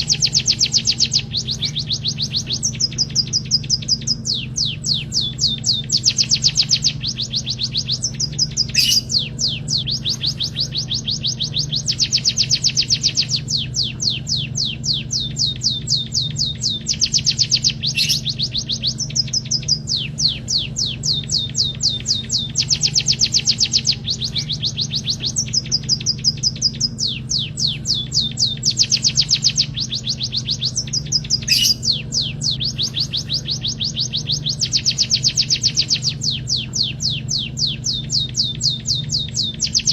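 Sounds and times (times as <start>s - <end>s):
bird singing rapid trills: 0.0s - 39.9s
steady low hum: 0.0s - 39.9s.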